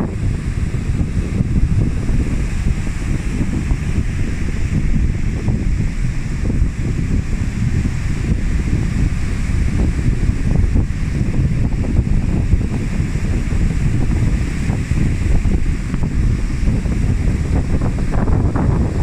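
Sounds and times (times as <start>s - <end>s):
stormy sea surf: 0.0s - 19.0s
wind buffeting microphone: 0.0s - 19.0s.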